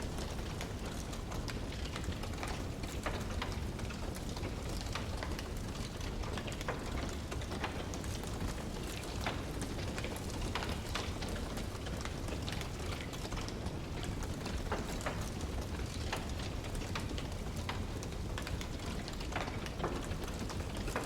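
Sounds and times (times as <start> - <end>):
logs crackling and popping: 0.0 - 21.0.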